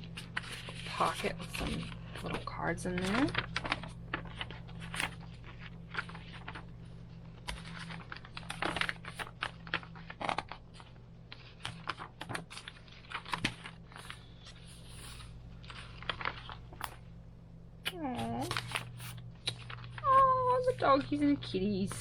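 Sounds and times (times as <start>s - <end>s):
paper pages turning: 0.0s - 17.0s, 17.9s - 22.0s
low steady hum: 0.0s - 22.0s.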